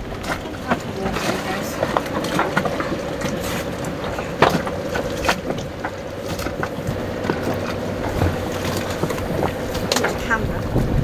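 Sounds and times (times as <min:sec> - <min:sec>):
boat engine drone: 0:00.0 - 0:11.0
water and air wash: 0:00.0 - 0:11.0.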